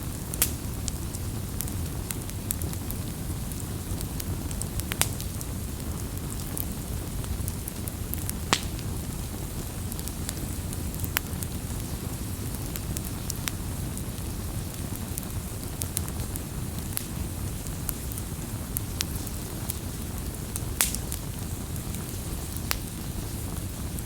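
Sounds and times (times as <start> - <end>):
campfire burning: 0.0 - 24.0
wood crackling and popping: 0.0 - 24.0.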